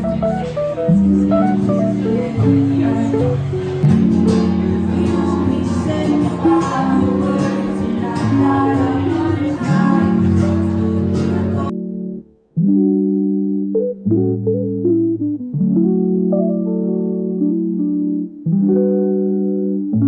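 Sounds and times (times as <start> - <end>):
guitar-led background music: 0.0 - 20.0.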